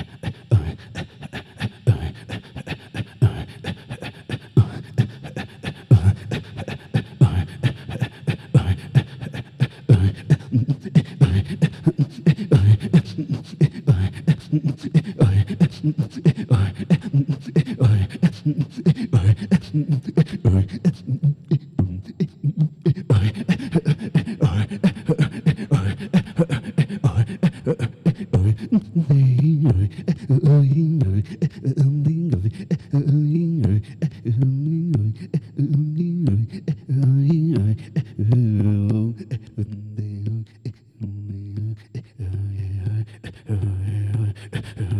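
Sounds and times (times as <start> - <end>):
pitched vocal tones: 0.0 - 44.9
rhythmic breathing vocal percussion: 0.0 - 44.9.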